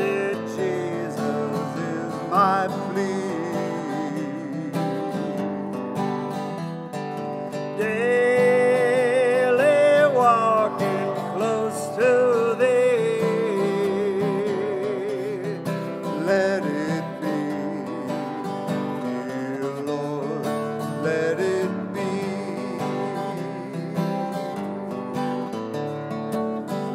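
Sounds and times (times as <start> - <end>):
acoustic guitar strumming chords: 0.0 - 26.9.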